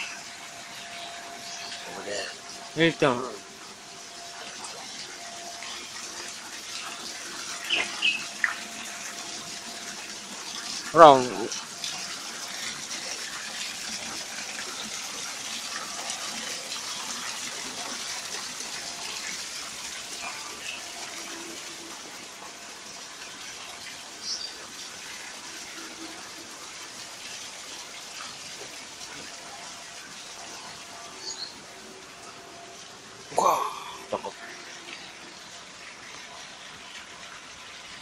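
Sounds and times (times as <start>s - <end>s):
rushing water: 0.0s - 38.0s.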